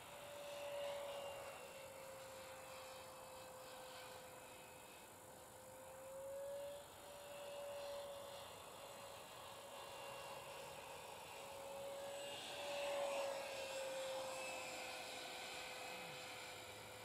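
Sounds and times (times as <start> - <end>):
model jet fan whining: 0.0 - 17.0.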